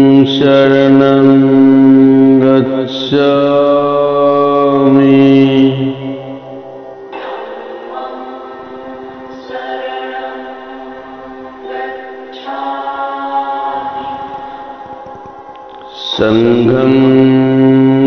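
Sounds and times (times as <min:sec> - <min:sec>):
choral music: 0:00.0 - 0:18.0.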